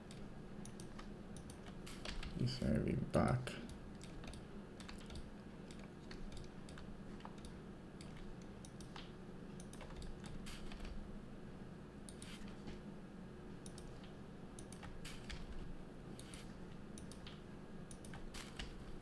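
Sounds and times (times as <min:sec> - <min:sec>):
keyboard and mouse clicks: 0:00.0 - 0:02.4, 0:03.2 - 0:11.0, 0:12.1 - 0:12.6, 0:13.6 - 0:15.6, 0:16.2 - 0:19.0
low background noise: 0:00.0 - 0:19.0.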